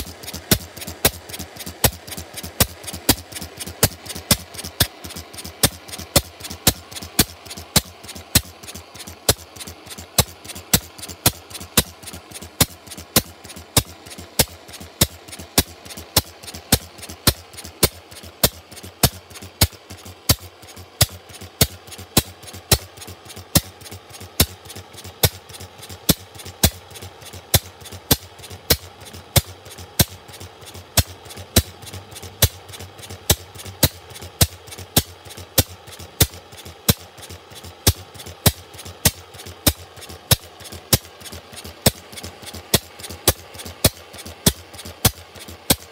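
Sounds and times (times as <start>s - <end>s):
engine mechanical clicks: 0.0s - 45.9s
oil engine exhaust cracks: 0.0s - 45.9s.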